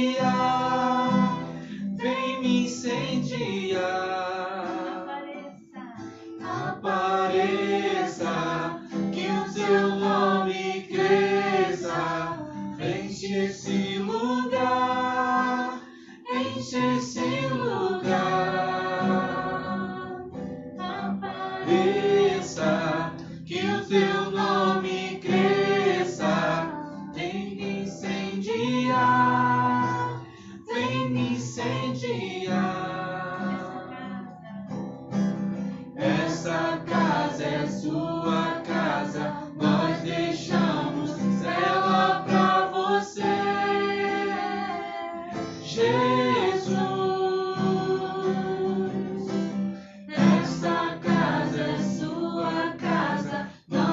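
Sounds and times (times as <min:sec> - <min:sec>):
group singing worship song: 0:00.0 - 0:34.5, 0:35.2 - 0:53.9
acoustic guitar: 0:00.0 - 0:53.9
woman singing lead: 0:04.5 - 0:34.8, 0:36.0 - 0:49.4, 0:50.1 - 0:53.9.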